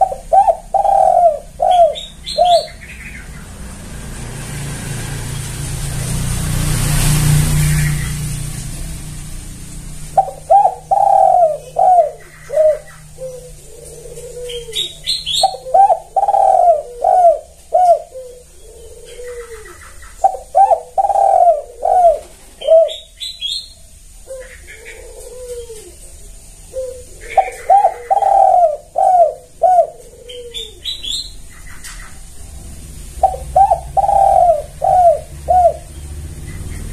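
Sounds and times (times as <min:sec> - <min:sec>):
dove cooing: 0:00.0 - 0:04.0, 0:09.4 - 0:36.9
passing vehicle: 0:00.0 - 0:25.8, 0:26.6 - 0:36.9.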